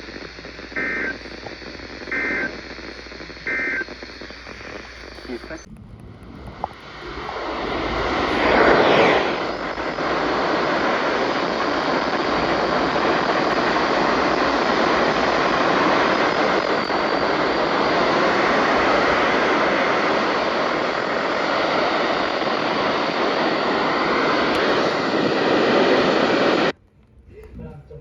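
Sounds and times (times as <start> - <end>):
loud static hiss: 0.0 - 26.8.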